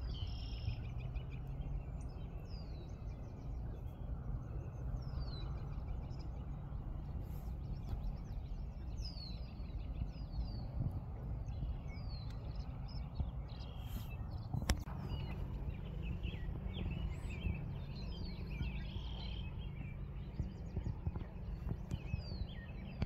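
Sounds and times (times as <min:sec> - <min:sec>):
low steady rumble: 0:00.0 - 0:23.0
small birds chirping: 0:00.0 - 0:23.0.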